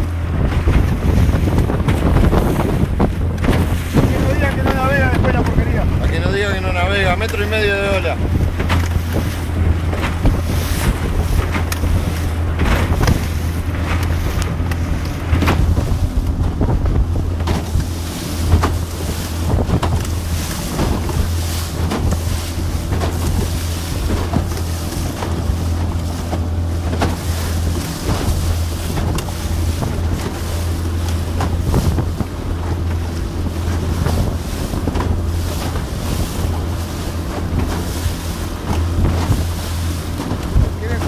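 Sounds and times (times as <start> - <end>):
motorboat engine drone: 0.0 - 41.0
water slapping against hull: 0.0 - 41.0
wind buffeting microphone: 0.0 - 41.0.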